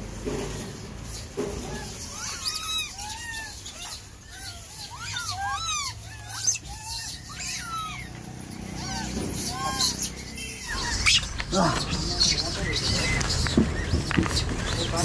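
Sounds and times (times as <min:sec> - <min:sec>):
monkeys calling: 0:01.1 - 0:15.0.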